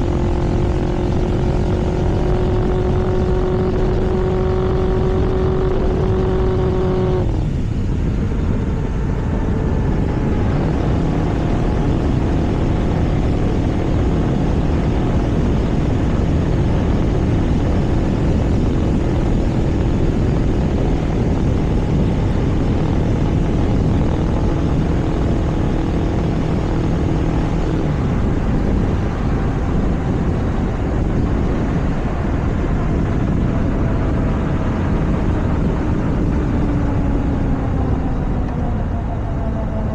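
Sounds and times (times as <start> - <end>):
vehicle engine running: 0.0 - 39.9
wind rush on microphone: 0.0 - 39.9.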